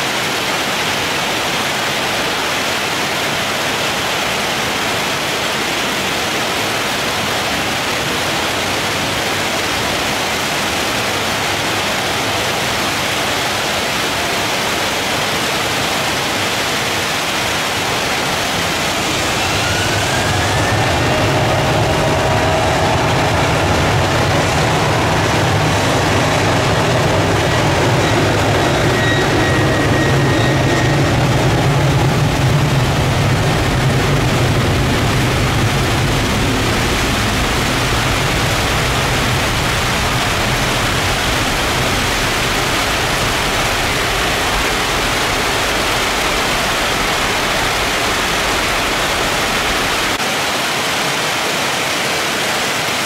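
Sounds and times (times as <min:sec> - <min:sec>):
jet engines rumbling: 0:00.0 - 0:50.2
torrential rain hiss: 0:00.0 - 0:53.0.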